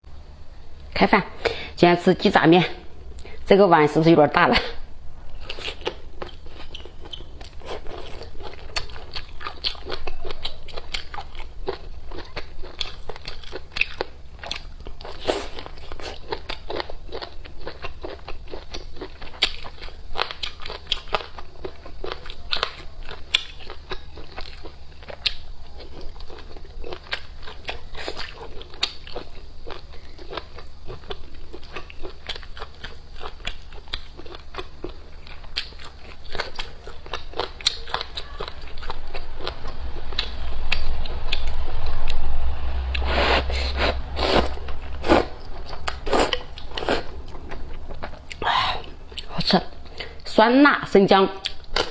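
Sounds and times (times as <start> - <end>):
low steady hum: 0.0 - 51.9
person biting and chewing: 5.3 - 41.6, 42.8 - 50.2, 51.4 - 51.9.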